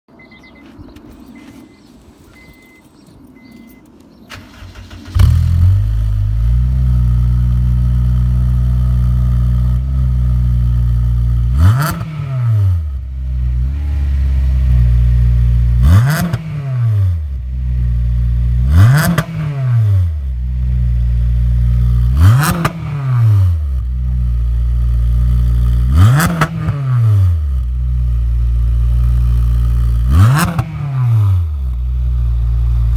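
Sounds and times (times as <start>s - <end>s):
car engine idling and revving: 0.2s - 32.9s.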